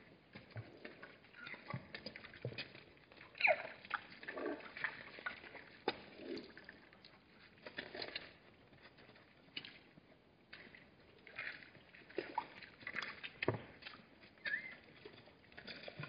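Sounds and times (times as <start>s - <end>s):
zebras slurping water: 0.0s - 16.0s.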